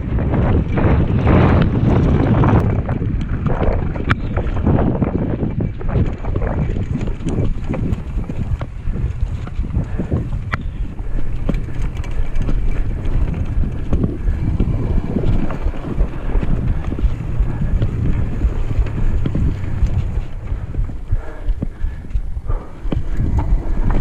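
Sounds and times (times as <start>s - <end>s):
bike knocking and rattling: 0.0s - 24.0s
wind rumble on microphone: 0.0s - 24.0s.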